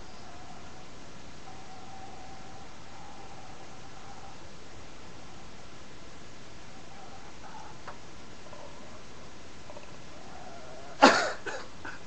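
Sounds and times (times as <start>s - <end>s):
recording hiss: 0.0s - 12.0s.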